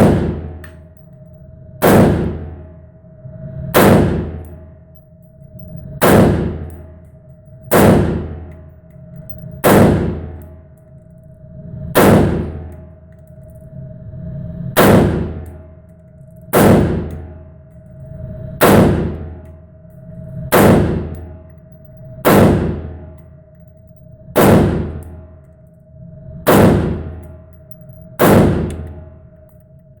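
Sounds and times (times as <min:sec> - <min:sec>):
steady low tone: 0:00.0 - 0:30.0.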